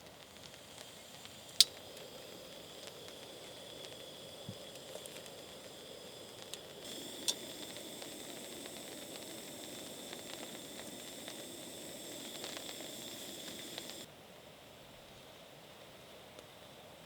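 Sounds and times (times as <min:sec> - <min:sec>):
fire crackles and snaps: 0:00.0 - 0:14.1
food sizzling over a fire: 0:00.0 - 0:14.1.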